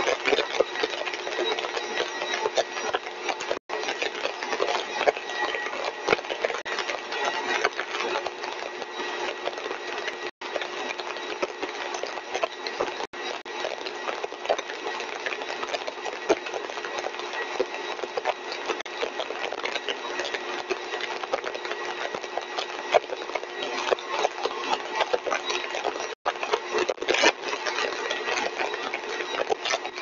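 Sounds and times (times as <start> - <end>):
compressor rushing and whining: 0.0 - 30.0
small crackles: 0.0 - 30.0.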